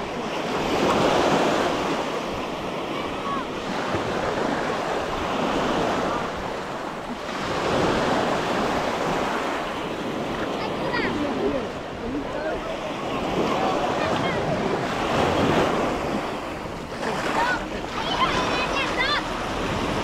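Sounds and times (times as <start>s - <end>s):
ocean surf breaking on beach: 0.0s - 20.0s
wind buffeting microphone: 3.2s - 20.0s.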